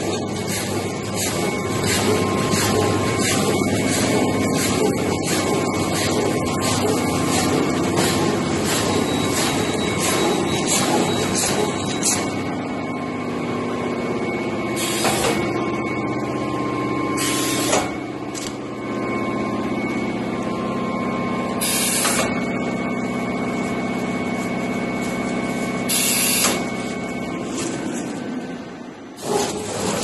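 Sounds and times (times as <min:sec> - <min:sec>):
machine hum and whine: 0:00.0 - 0:30.0.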